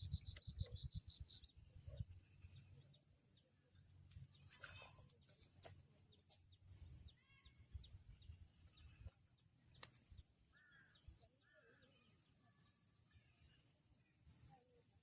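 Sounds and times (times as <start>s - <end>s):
faint bird chirps: 0.0s - 15.0s
low outdoor background noise: 0.0s - 15.0s.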